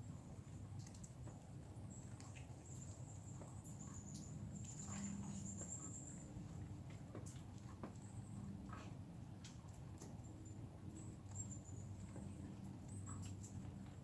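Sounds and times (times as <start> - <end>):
small ticks and clicks: 0.7 - 14.0.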